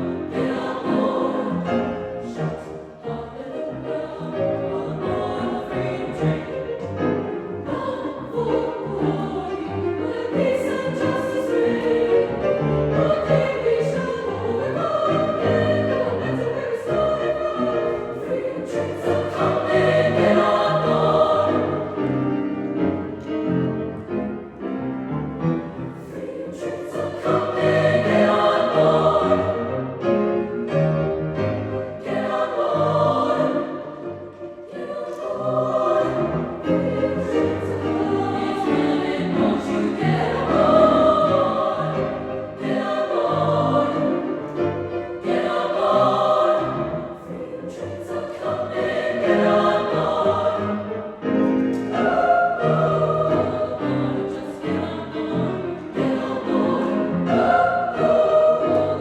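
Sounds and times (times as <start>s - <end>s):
large choir singing: 0.0s - 59.0s.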